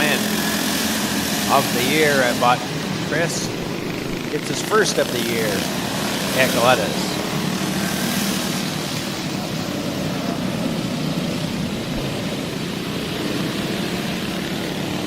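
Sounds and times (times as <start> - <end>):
go-kart engines running: 0.0 - 15.0.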